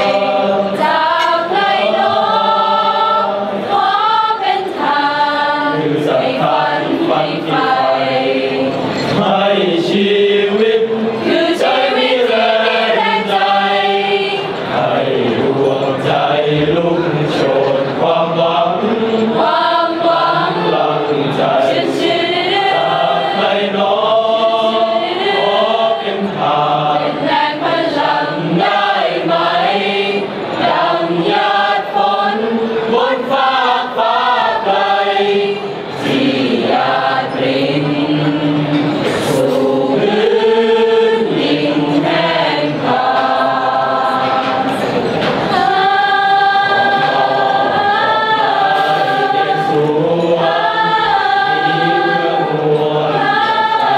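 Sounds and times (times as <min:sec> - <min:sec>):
choir singing in harmony: 0:00.0 - 0:53.9.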